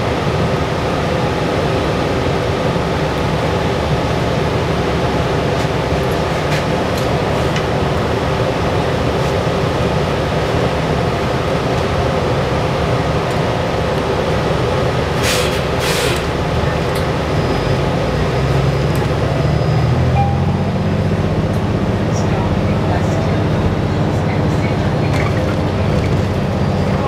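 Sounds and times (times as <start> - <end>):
bus engine drone: 0.0 - 27.0
road noise: 0.0 - 27.0.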